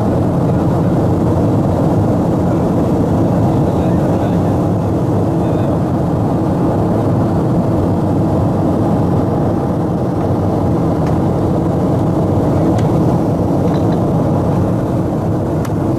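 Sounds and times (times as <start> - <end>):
airliner cabin engine drone: 0.0 - 15.9.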